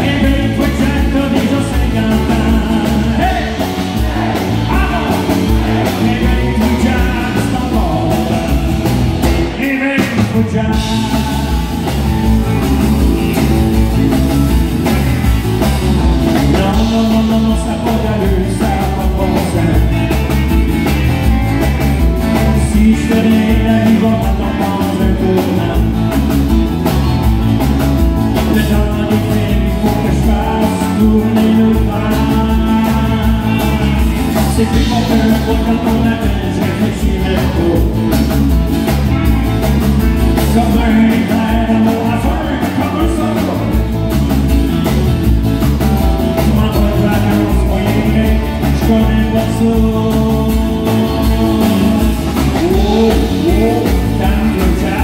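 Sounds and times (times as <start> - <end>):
lead singer singing: 0.0 - 26.8, 28.2 - 39.3, 40.2 - 44.1, 46.2 - 55.0
live country-rock band playing: 0.0 - 55.0.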